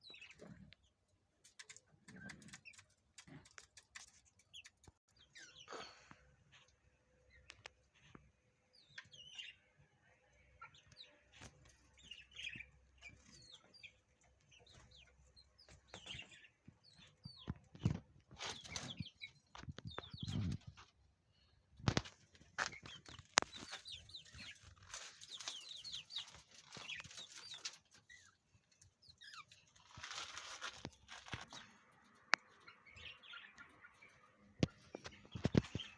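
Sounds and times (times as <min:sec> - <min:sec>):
birds chirping and calling: 0:00.0 - 0:01.0, 0:01.6 - 0:05.8, 0:06.5 - 0:09.7, 0:10.5 - 0:35.9.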